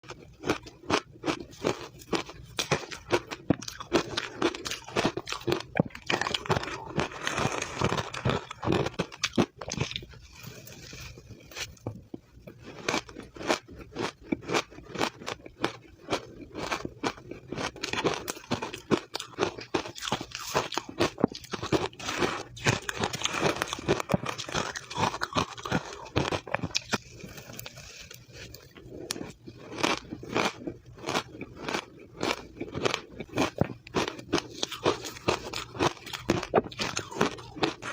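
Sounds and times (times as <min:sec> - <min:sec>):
crunching and chewing ice: 0:00.0 - 0:37.9.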